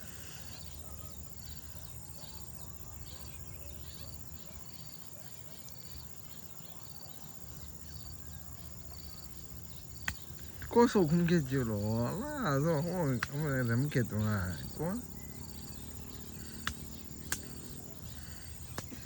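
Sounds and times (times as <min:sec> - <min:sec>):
high-pitched insect trill: 0:00.0 - 0:19.0
short insect chirp: 0:00.0 - 0:19.0
small bird-like chirps: 0:00.0 - 0:19.0.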